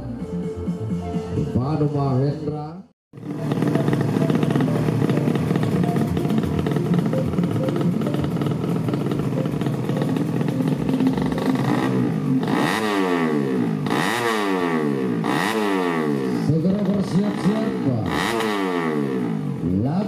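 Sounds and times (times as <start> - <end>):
engine revving in quick blips: 3.2 - 20.0
motorcycle engines running: 3.2 - 20.0.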